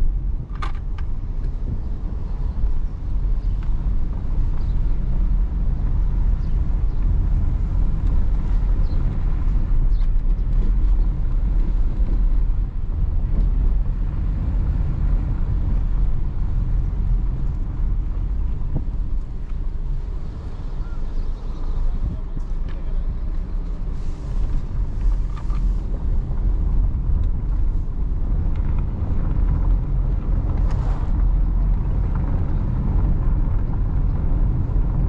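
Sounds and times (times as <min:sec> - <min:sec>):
car engine running: 0:00.0 - 0:35.0
tyre and road noise: 0:00.0 - 0:35.0.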